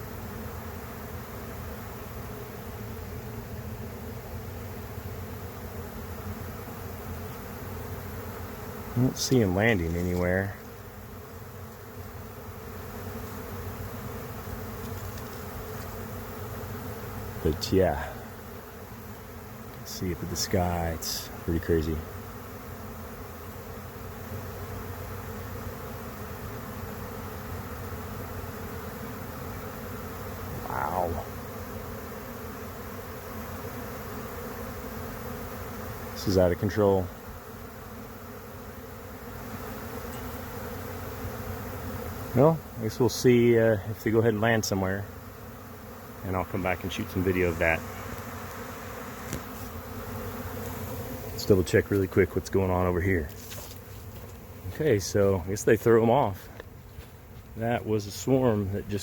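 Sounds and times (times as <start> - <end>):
bee swarm buzzing: 0.0 - 59.0.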